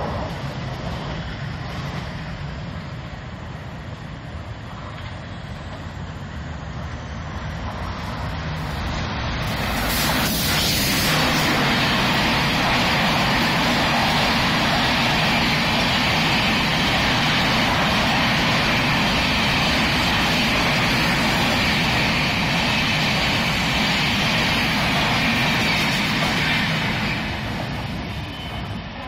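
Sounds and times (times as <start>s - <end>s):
train coaches rushing past: 0.0s - 29.0s.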